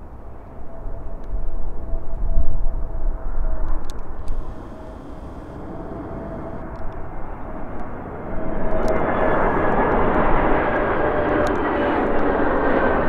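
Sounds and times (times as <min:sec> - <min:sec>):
jet engine rumble with whine: 0:00.0 - 0:13.0.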